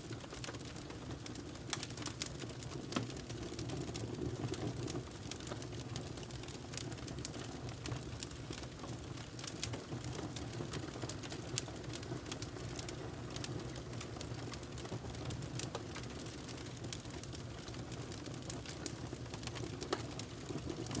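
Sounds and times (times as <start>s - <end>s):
burning logs crackling: 0.0s - 21.0s
fire rumble and hiss: 0.0s - 21.0s.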